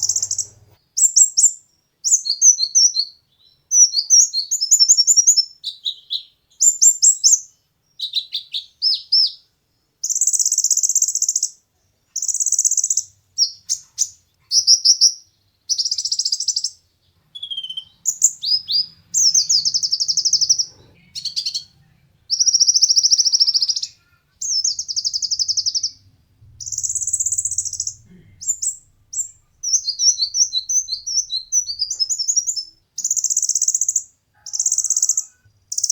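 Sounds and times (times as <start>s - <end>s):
sunbird singing trilled phrases: 0.0s - 9.4s, 12.2s - 21.7s, 22.3s - 35.9s.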